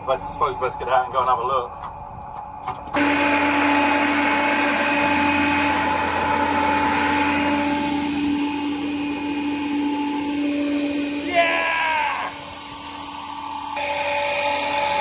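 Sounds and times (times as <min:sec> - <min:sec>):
blower fan whirring hum: 0:00.0 - 0:15.0.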